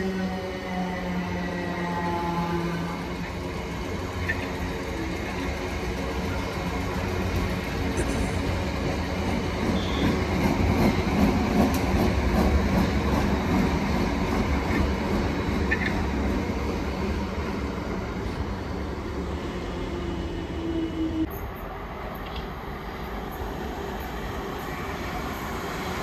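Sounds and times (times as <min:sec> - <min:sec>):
train rumbling past: 0:00.0 - 0:26.0.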